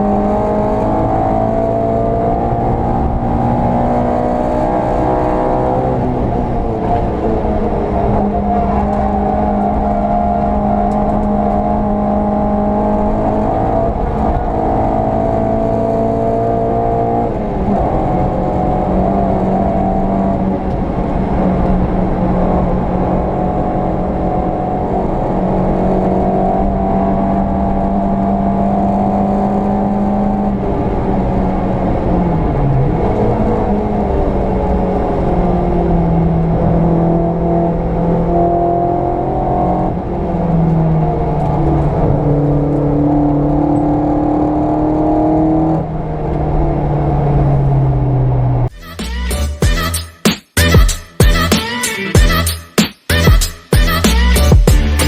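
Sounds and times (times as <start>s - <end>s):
car engine at high revs: 0.0s - 48.7s.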